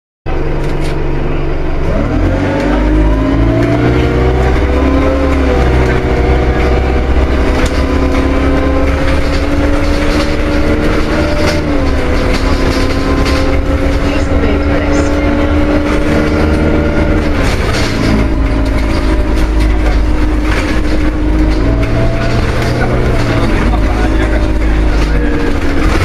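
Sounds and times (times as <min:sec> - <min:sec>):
bus engine drone: 0:00.3 - 0:26.0
rising engine whine: 0:00.3 - 0:26.0.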